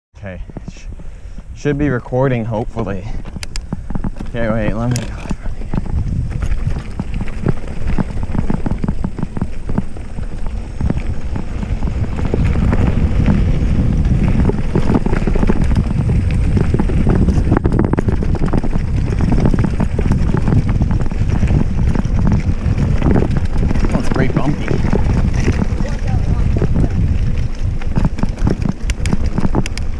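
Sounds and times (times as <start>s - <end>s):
bike knocking and rattling: 0.2s - 29.9s
wind rushing over microphone: 0.2s - 29.9s.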